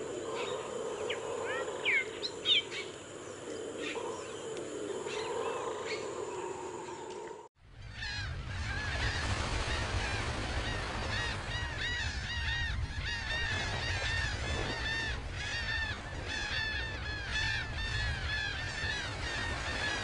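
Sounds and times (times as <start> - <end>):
many birds calling: 0.0 - 20.0.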